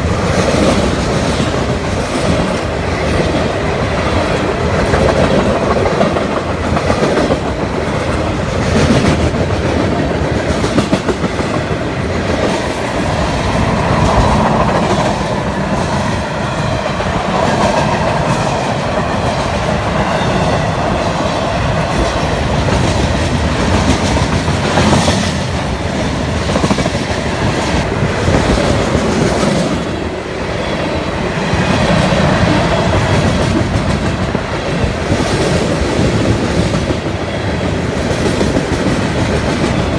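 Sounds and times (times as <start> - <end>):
freight train rumbling: 0.0 - 39.9
wheels clacking over rail joints: 0.0 - 39.9.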